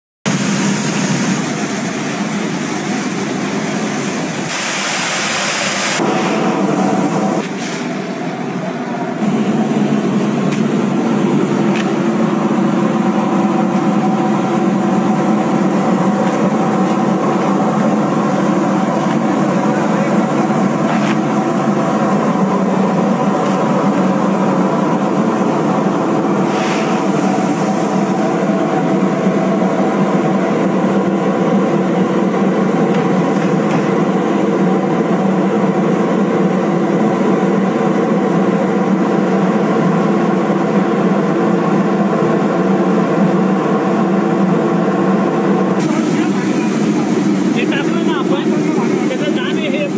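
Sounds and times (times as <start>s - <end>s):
mill machinery droning: 0.3s - 49.9s.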